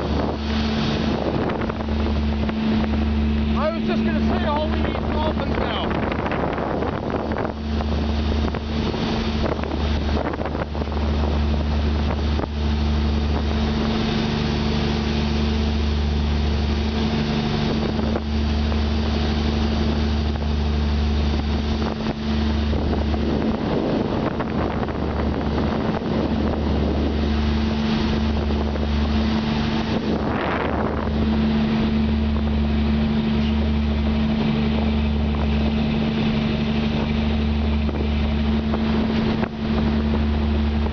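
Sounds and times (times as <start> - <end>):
churning wake rushing: 0.0 - 40.9
motorboat engine droning: 0.0 - 40.9
wind on microphone: 0.0 - 40.9.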